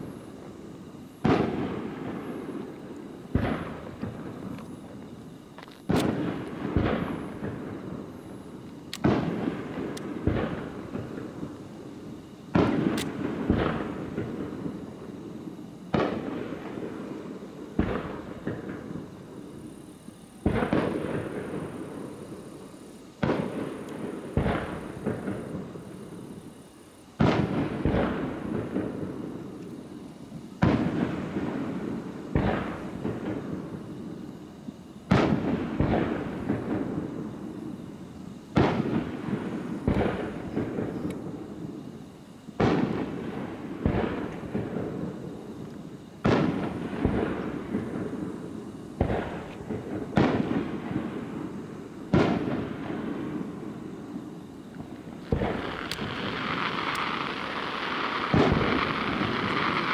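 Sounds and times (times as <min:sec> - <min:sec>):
firework shells booming: 0:00.0 - 0:22.6, 0:23.2 - 0:34.3, 0:35.0 - 0:41.9, 0:42.5 - 0:59.9.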